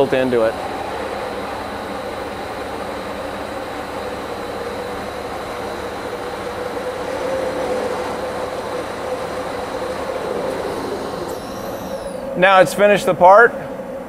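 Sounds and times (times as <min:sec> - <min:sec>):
waterjet cutter hissing: 0:00.0 - 0:14.0.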